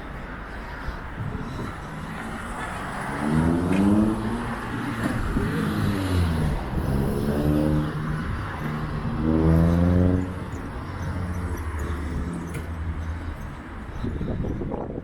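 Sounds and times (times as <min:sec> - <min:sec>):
traffic hum: 0:00.0 - 0:15.0
vehicles accelerating past: 0:00.7 - 0:14.9.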